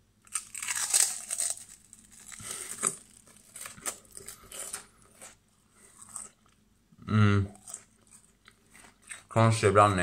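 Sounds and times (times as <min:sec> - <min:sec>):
cracker crunching while chewed: 0:00.2 - 0:06.6, 0:07.5 - 0:09.4.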